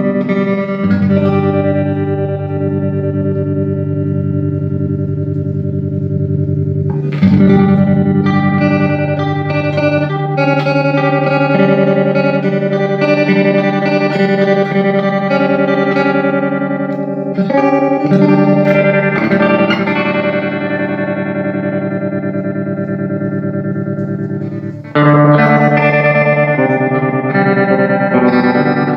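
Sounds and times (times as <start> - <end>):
electric guitar chords ringing: 0.0 - 28.9.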